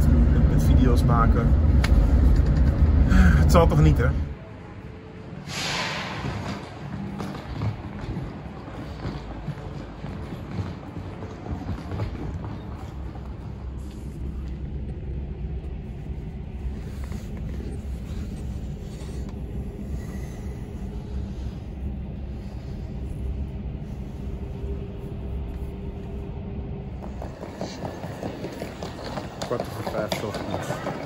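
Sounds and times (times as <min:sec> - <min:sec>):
low rumble: 0:00.0 - 0:27.6
faint hum: 0:00.0 - 0:29.2.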